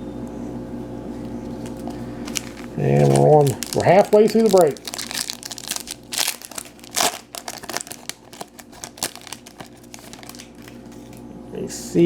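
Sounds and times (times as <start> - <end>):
foil wrapper crinkling and tearing: 1.4 - 11.2.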